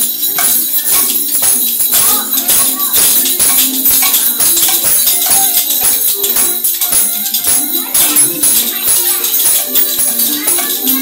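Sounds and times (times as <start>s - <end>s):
jingling percussion beat: 0.0s - 11.0s.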